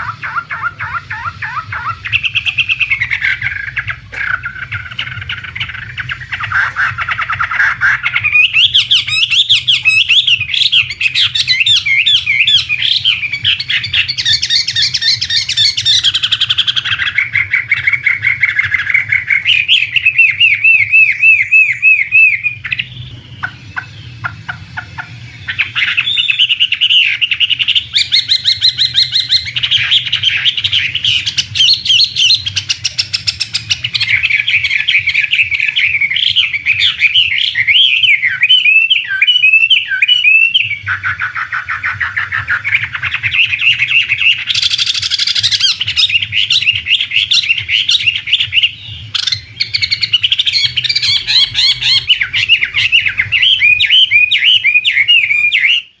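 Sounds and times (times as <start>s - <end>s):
bird song with whistles and trills: 0.0s - 56.0s.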